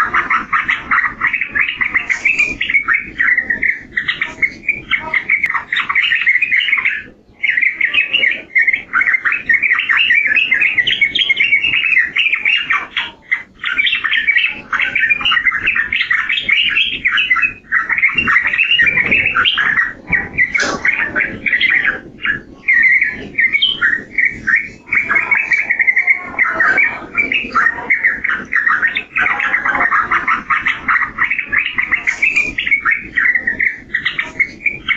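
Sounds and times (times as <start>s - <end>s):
bird singing chattering warble: 0.0s - 34.9s.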